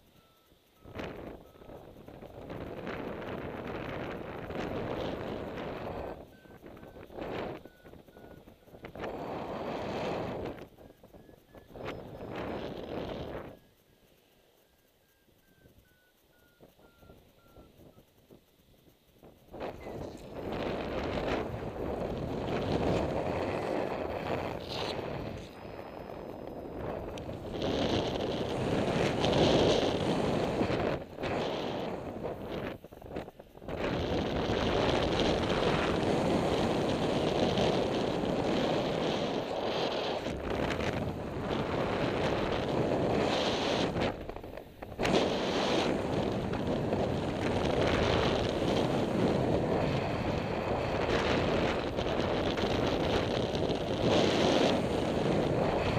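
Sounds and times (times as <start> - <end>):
wind roaring over microphone: 0.8 - 13.8, 16.5 - 55.9.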